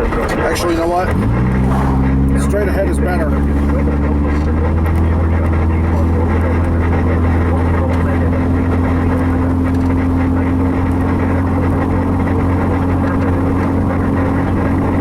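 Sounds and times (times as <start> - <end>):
engine and road drone in car: 0.0 - 15.0.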